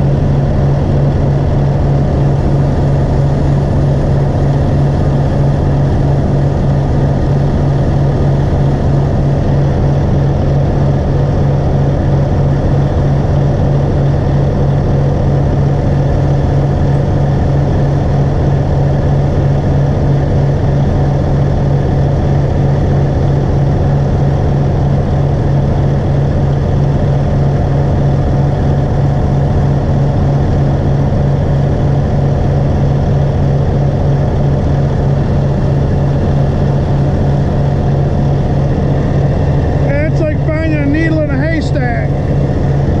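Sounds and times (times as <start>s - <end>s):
large engine humming: 0.0s - 43.0s.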